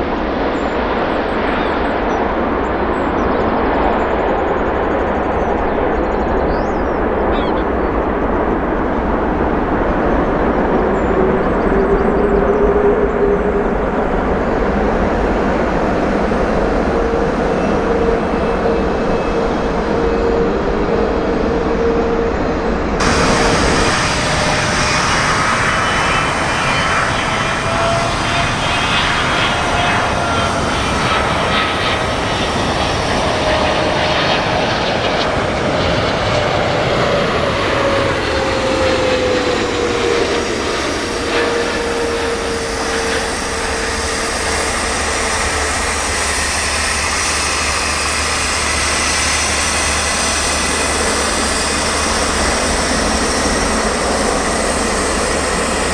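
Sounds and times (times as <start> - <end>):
jet airliner passing: 0.0 - 55.9.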